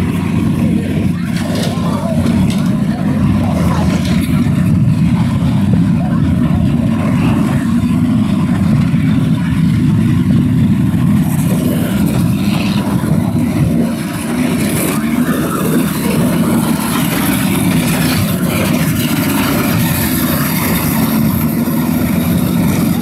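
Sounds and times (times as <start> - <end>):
bus engines droning: 0.0 - 23.0.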